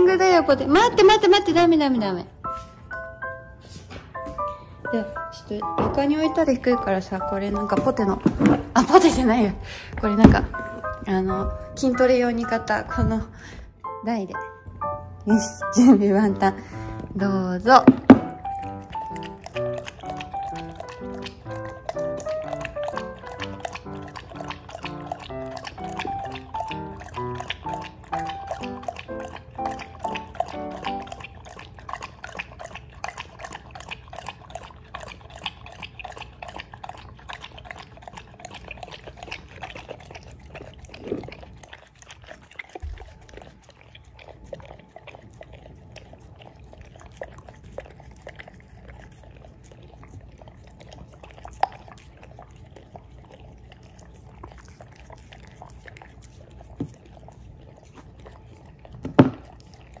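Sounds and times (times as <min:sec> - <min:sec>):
dog licking bare bowl: 0:03.6 - 0:13.7, 0:15.4 - 1:00.0
dog lapping milk from a bowl: 0:04.1 - 0:13.6, 0:15.7 - 1:00.0.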